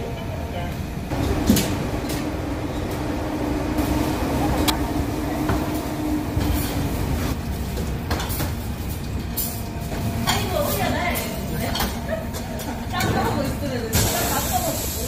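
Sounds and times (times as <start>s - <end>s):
kitchen machinery rumble: 0.0s - 15.0s.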